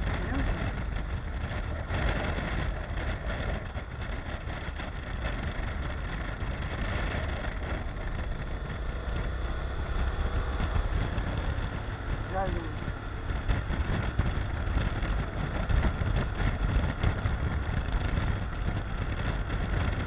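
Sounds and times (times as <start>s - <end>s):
motorcycle engine: 0.0s - 20.0s
wind buffeting microphone: 0.0s - 20.0s.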